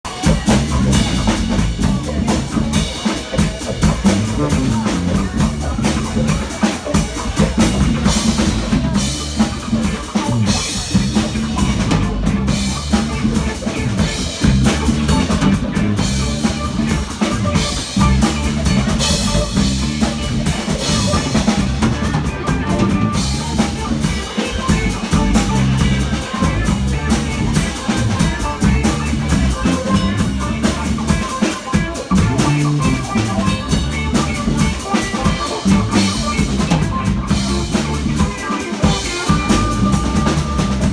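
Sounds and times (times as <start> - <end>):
live band playing: 0.0 - 40.9
bass drum: 0.1 - 40.9.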